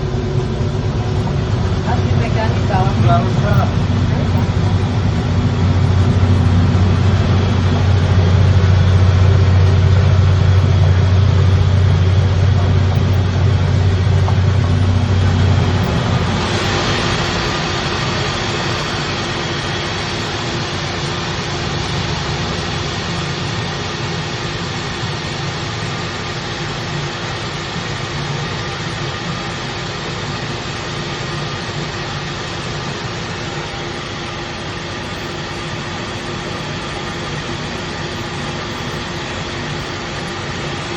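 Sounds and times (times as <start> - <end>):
rice milling machine humming: 0.0 - 40.9.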